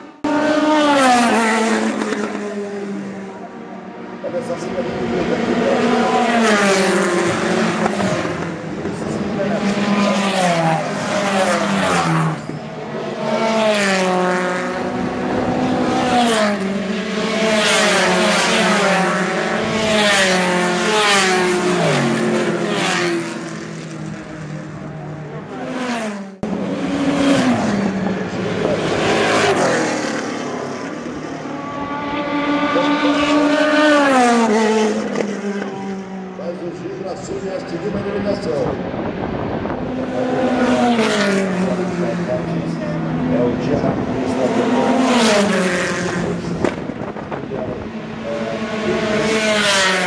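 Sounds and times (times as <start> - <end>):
race cars passing at speed: 0.0 - 50.0.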